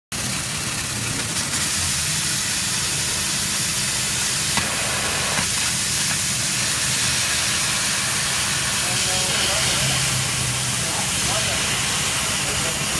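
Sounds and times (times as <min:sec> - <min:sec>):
laser cutting machine hissing: 0:00.2 - 0:12.9.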